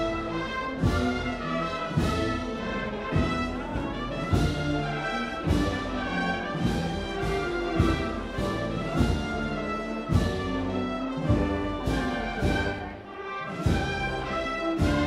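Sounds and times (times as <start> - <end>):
brass band playing a slow march: 0.0 - 15.0.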